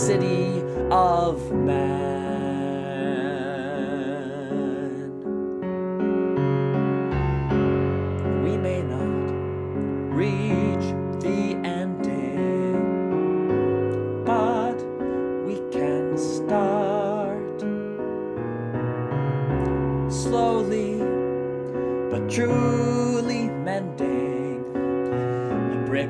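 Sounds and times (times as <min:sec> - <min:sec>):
person singing: 0:00.0 - 0:05.6, 0:08.2 - 0:18.0, 0:19.6 - 0:26.0
piano accompaniment: 0:00.0 - 0:26.0.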